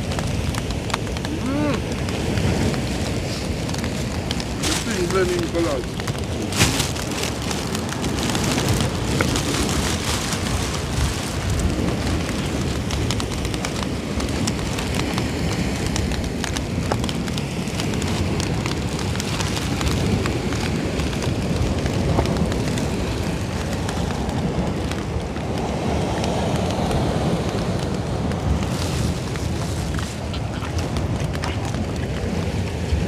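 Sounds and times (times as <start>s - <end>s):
small crackles and ticks: 0.0s - 33.0s
wind rumbling on microphone: 0.0s - 33.0s.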